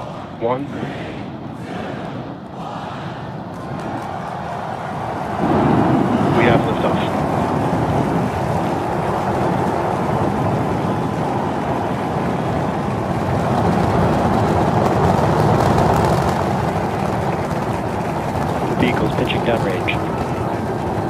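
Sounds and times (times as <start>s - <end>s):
rocket engines roaring: 0.0s - 21.0s.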